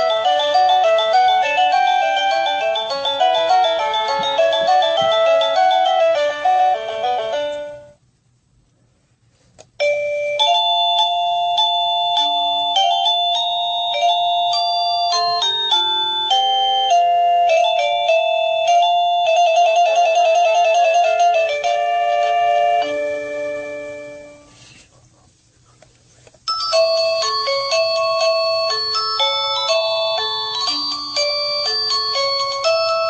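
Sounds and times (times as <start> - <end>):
doorbell chime melodies: 0.0 - 8.0, 9.8 - 24.5, 26.5 - 33.0.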